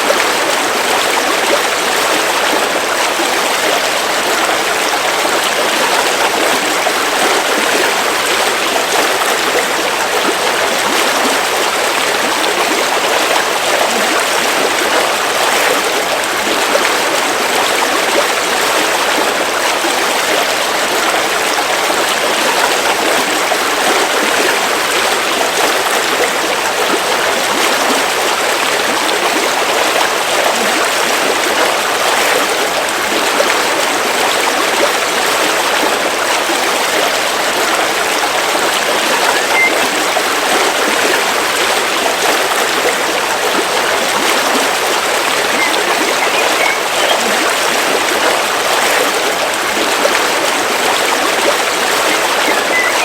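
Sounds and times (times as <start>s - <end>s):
river water flowing over rocks: 0.0s - 53.0s.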